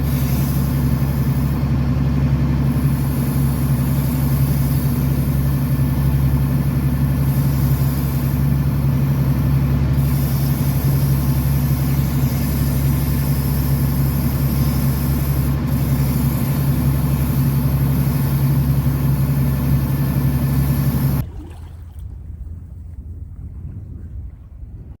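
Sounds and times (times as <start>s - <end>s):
boat engine humming: 0.0s - 24.8s.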